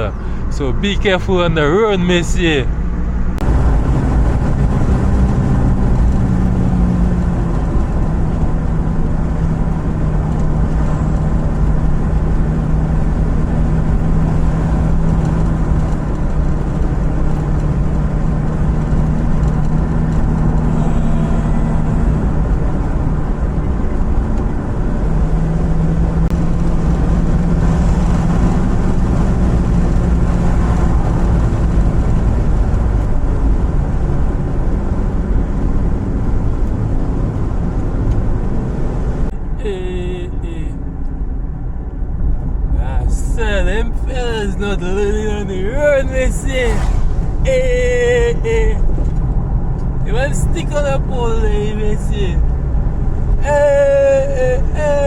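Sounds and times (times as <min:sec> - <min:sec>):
car engine hum: 0:00.0 - 0:55.0
road noise: 0:00.0 - 0:55.0.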